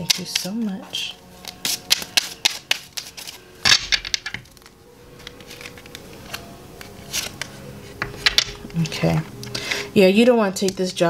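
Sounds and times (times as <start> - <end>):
cards being shuffled: 0.0 - 8.9.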